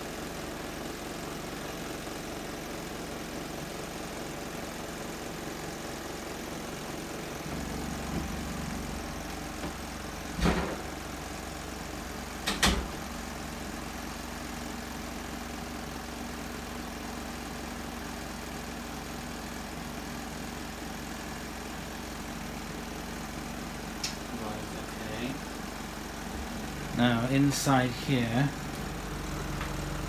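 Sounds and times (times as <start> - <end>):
washing machine humming: 0.0 - 30.0.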